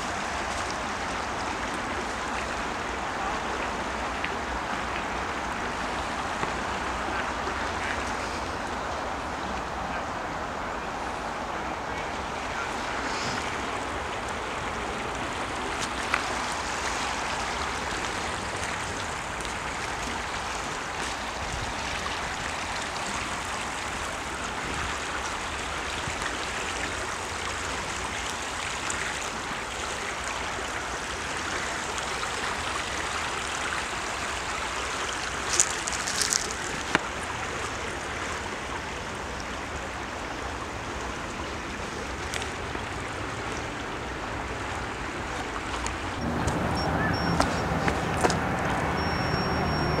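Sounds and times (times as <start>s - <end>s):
creek rushing over stones: 0.0s - 50.0s.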